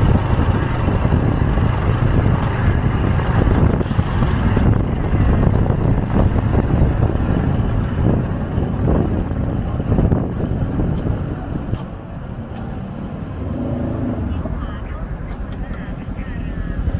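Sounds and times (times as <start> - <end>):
wind rushing over microphone: 0.0 - 14.6
motorcycle engine rumbling: 0.0 - 16.9.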